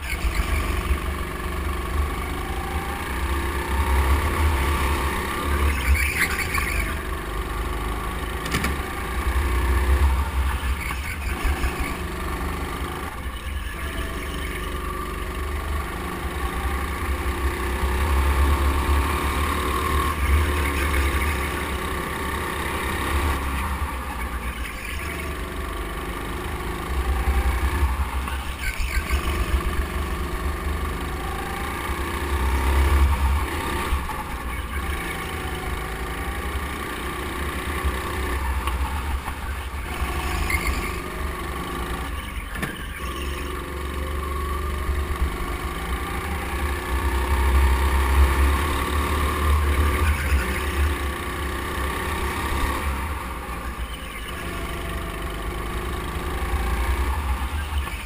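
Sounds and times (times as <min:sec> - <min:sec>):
go-kart engine drone: 0:00.0 - 0:58.0.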